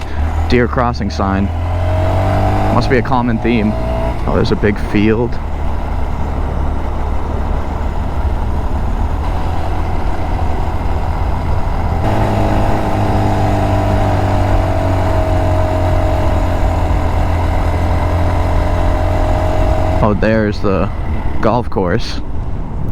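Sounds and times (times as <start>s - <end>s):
motorcycle engine running: 0.0s - 21.4s
wind and road noise: 0.0s - 22.9s.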